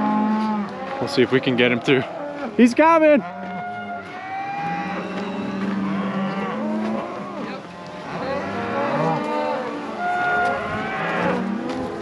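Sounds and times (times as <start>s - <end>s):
cows and calves mooing: 0.0s - 12.0s.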